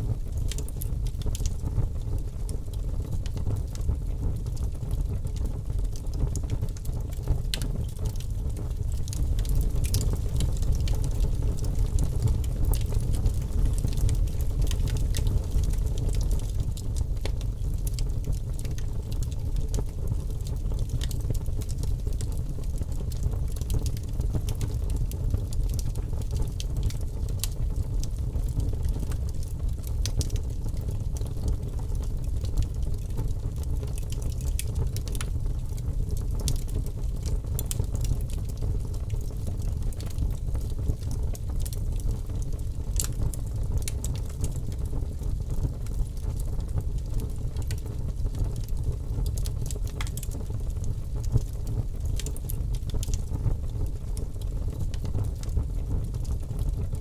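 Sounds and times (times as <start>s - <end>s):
low rumble of flame: 0.0s - 57.0s
fire crackling and popping: 0.1s - 57.0s.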